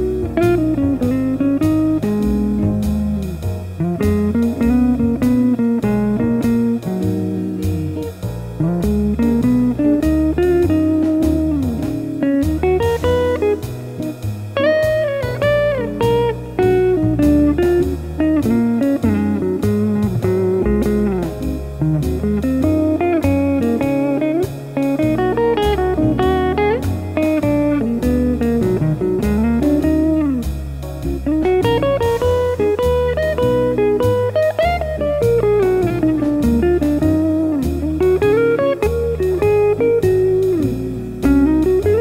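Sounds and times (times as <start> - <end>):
electric guitar lead with bends: 0.0 - 42.0.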